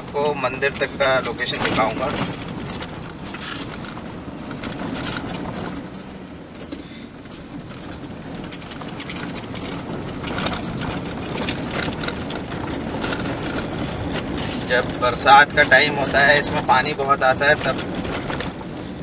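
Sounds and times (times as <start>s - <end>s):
knocks and rattles: 0.0s - 19.0s
vehicle engine and road rumble: 0.0s - 19.0s.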